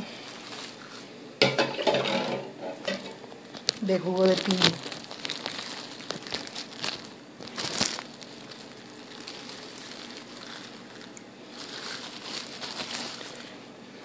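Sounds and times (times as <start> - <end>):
plastic bag crinkling: 0.0 - 1.1, 2.8 - 13.7.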